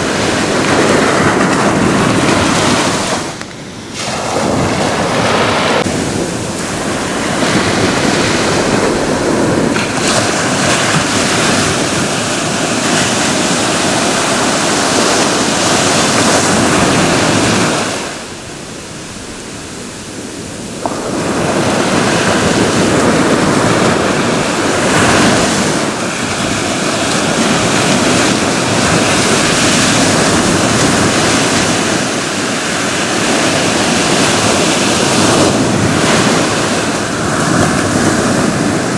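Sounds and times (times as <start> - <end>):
ocean surf breaking on shore: 0.0 - 38.9.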